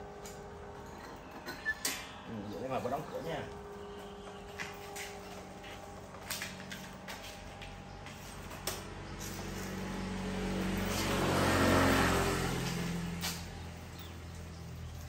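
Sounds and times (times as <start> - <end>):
low engine hum: 2.3 - 15.0
motor vehicle passing: 2.4 - 15.0.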